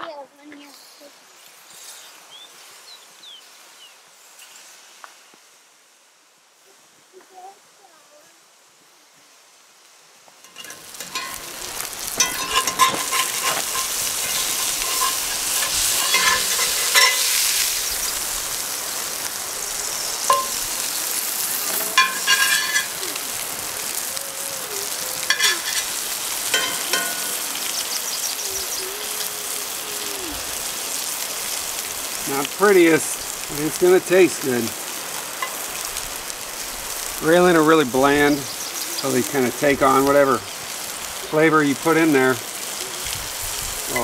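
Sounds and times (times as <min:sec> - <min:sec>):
fish sizzling in a skillet: 0:03.5 - 0:05.5, 0:09.4 - 0:44.0.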